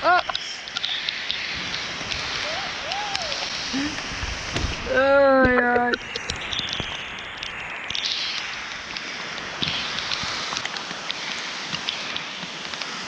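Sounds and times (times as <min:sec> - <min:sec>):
raindrops ticking: 0:00.0 - 0:12.9
heavy rain on water: 0:00.0 - 0:13.0.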